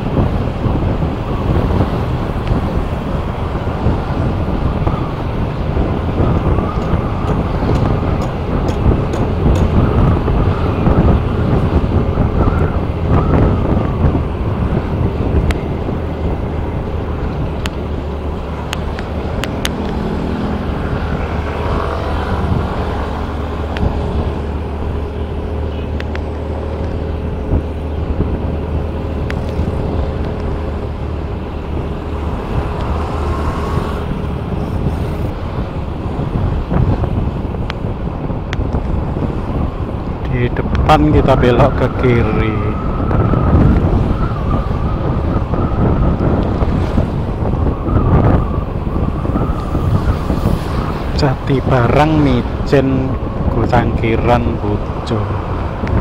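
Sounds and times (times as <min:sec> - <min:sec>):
road noise: 0:00.0 - 0:56.0
wind on microphone: 0:00.0 - 0:56.0.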